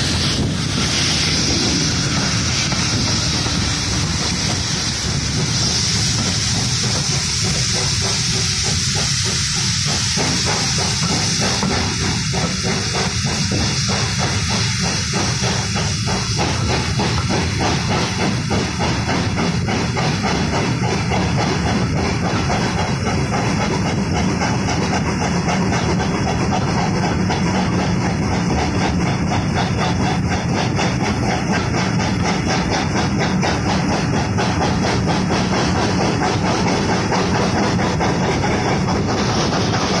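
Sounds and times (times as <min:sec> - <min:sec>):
steam locomotive exhaust chuffs: 0:00.0 - 0:40.0
train coaches clattering on rails: 0:00.0 - 0:40.0.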